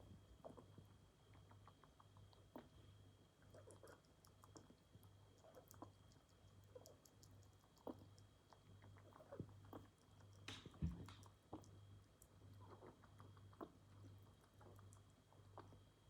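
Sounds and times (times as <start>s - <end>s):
faint low hum: 0.0s - 16.0s
rabbit lapping water: 0.0s - 16.0s.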